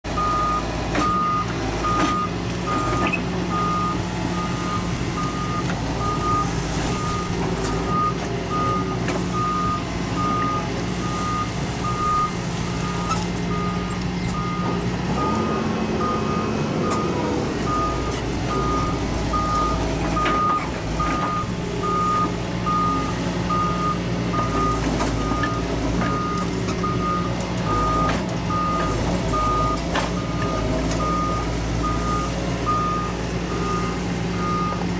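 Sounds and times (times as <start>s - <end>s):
reversing alarm beeping: 0.2s - 34.9s.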